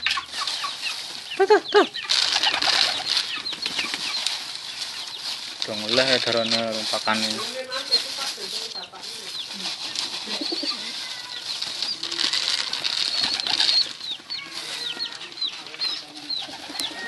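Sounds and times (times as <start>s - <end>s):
high falling bird chirps: 0.0s - 17.0s
pigeons flapping wings: 2.1s - 6.7s, 7.4s - 17.0s.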